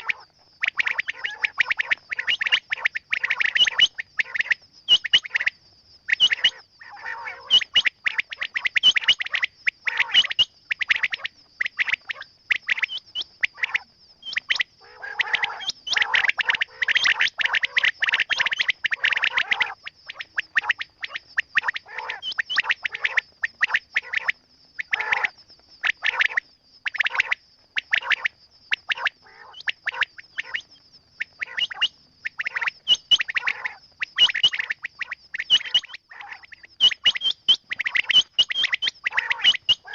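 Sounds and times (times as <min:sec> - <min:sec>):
quail chirping and squawking: 0:00.0 - 0:05.5, 0:06.1 - 0:11.2, 0:11.9 - 0:23.2, 0:28.8 - 0:39.9.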